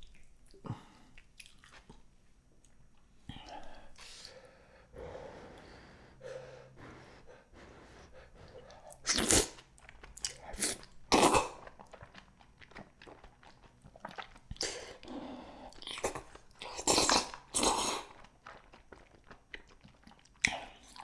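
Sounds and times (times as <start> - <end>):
soft chewing and mouth noises: 0.0 - 21.0.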